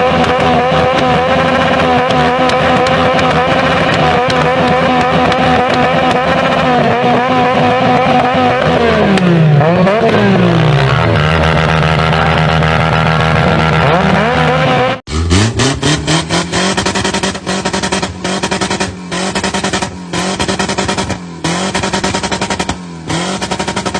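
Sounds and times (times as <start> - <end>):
engine at high revs: 0.0 - 23.9
engine hitting rev limiter: 0.0 - 23.9.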